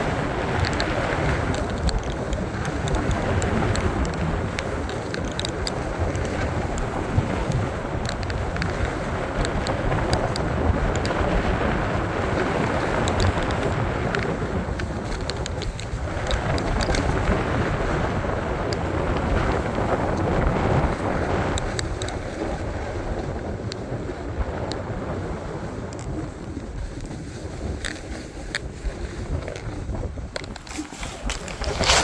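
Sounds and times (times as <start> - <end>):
small clicks and scrapes: 0.0 - 32.0
snowboard sliding over snow: 0.0 - 32.0
wind buffeting microphone: 0.0 - 32.0.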